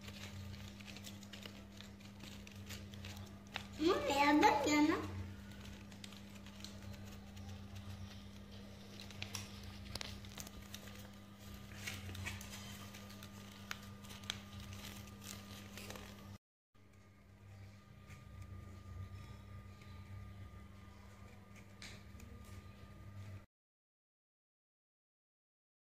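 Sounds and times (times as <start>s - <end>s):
paper clicks and rustles: 0.0s - 23.4s
low hum: 0.0s - 23.5s.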